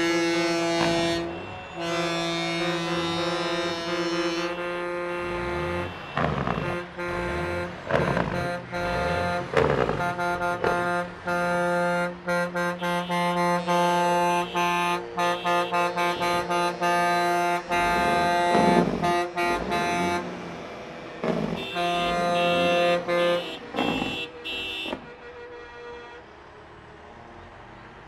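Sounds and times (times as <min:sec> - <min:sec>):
truck air horns blasting: 0:00.0 - 0:20.6, 0:21.2 - 0:26.4
passing truck engines: 0:00.0 - 0:28.0.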